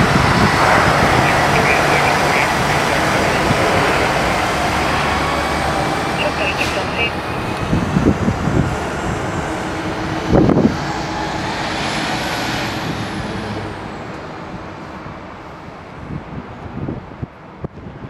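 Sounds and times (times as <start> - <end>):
fire trucks driving past: 0.0 - 18.0.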